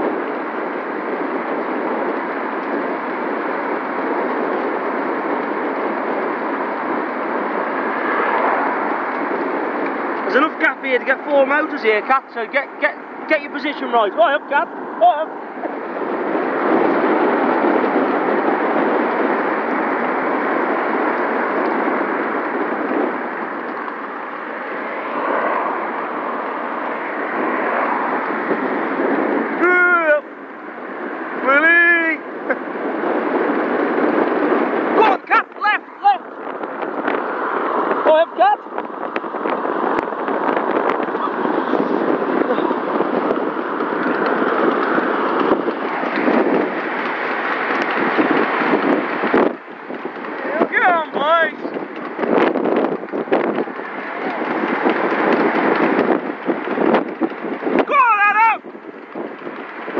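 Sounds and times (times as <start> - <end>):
road and traffic noise: 0.0 - 59.9
wind buffeting microphone: 0.0 - 59.9.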